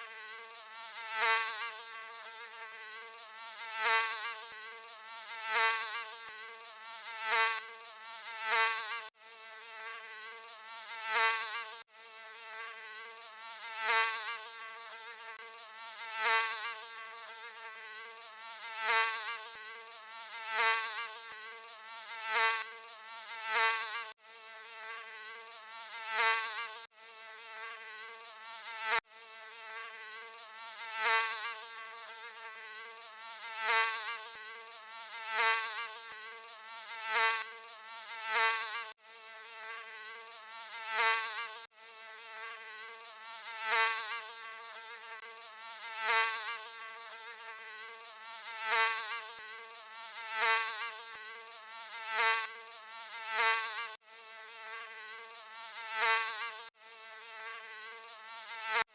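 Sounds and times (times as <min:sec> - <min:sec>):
mosquito buzzing: 0:00.0 - 0:58.9.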